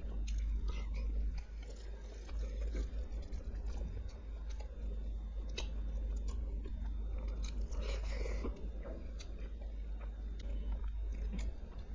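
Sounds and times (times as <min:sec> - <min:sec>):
chewing and wet mouth noises: 0:00.0 - 0:11.9
steady low hum: 0:00.0 - 0:11.9.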